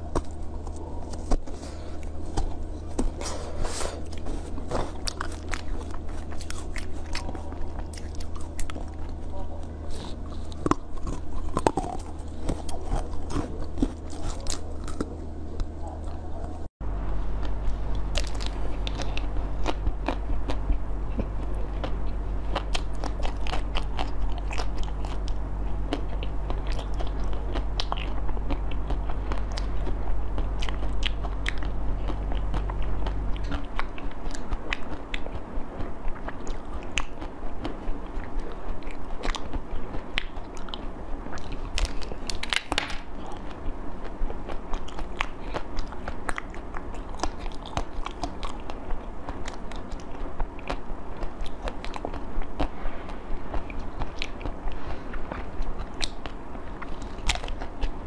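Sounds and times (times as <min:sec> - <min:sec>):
crunchy chewing: 0:00.0 - 0:16.7, 0:17.3 - 0:58.0.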